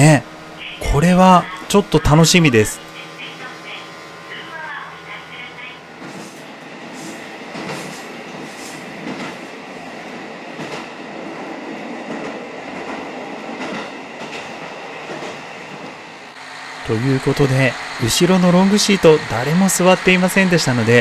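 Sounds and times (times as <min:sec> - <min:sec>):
railcar running noise: 0:00.0 - 0:21.0.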